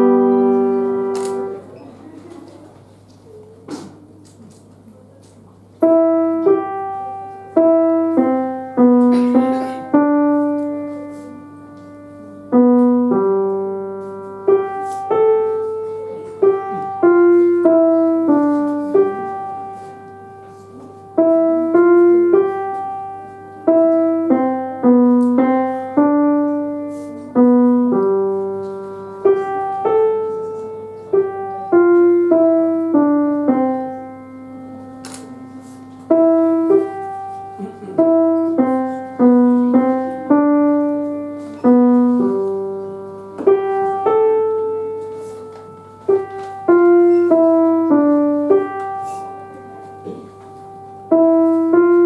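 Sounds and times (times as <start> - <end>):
piano tune: 0.0 - 4.4, 5.0 - 52.0.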